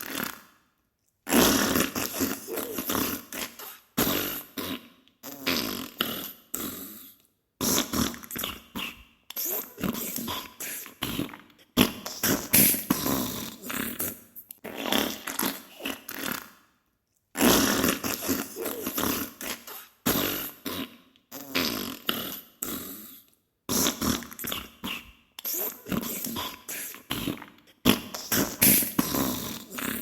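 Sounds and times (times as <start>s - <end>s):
farting noises: 0.0s - 0.6s, 1.3s - 16.7s, 17.3s - 30.0s.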